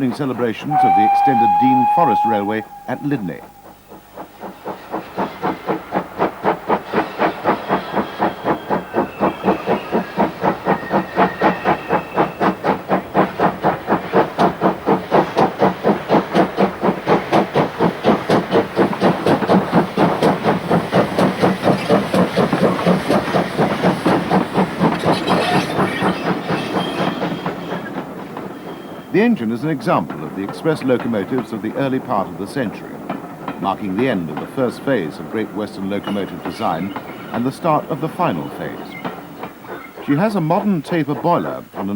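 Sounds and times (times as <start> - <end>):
steam hissing: 0.0 - 41.9
steam locomotive exhaust beats: 0.0 - 41.9
wheels on rails: 0.0 - 41.9.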